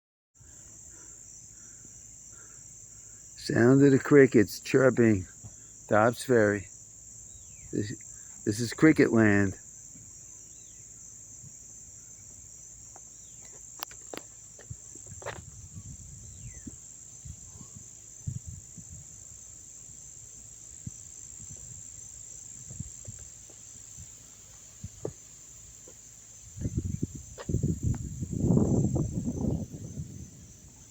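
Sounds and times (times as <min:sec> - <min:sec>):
crickets chirping: 0:00.4 - 0:30.9.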